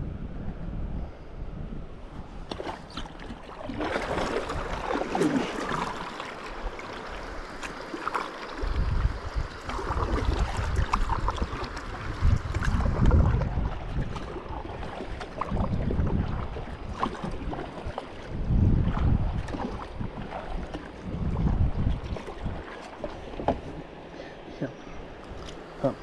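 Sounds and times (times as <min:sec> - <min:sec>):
wind rumble on microphone: 0:00.0 - 0:07.5, 0:08.5 - 0:23.9
water splashing around a kayak: 0:02.0 - 0:26.0.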